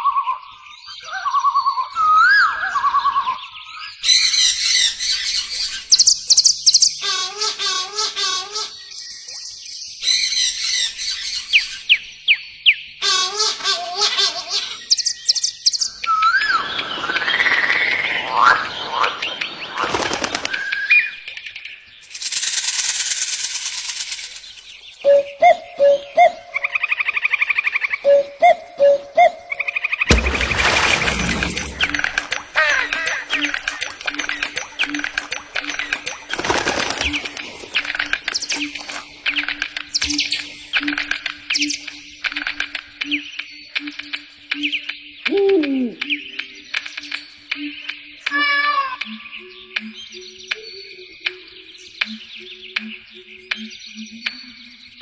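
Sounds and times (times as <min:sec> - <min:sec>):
bird calls and whistles: 0:00.0 - 0:55.0.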